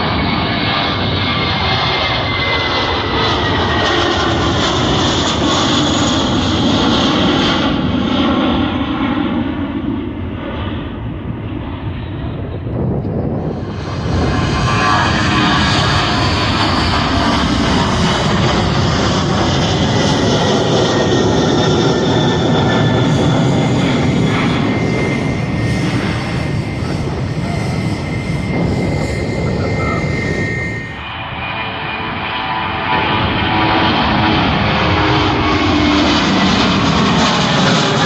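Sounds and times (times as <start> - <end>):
jet engines at takeoff thrust: 0.0 - 38.0.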